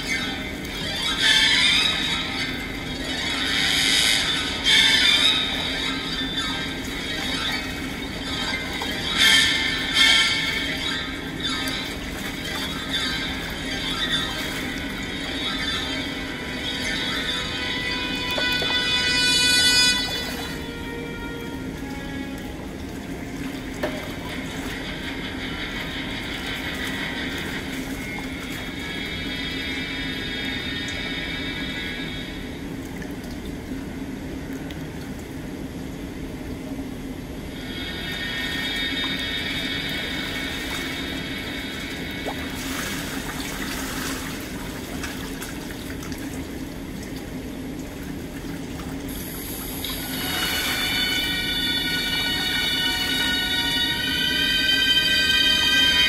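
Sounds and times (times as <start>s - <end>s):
faint music: 0.0s - 56.0s
low hum of pool hall: 0.0s - 56.0s
water splashing and sloshing: 0.0s - 56.0s.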